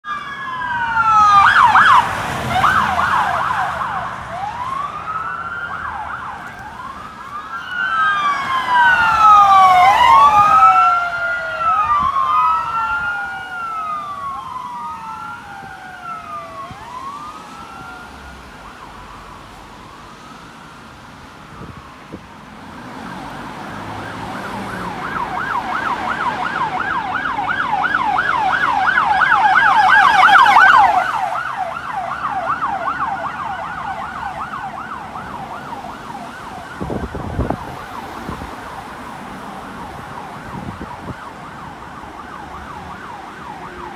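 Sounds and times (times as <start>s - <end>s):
police siren wailing: 0.0s - 43.9s
police siren yelp: 0.0s - 43.9s.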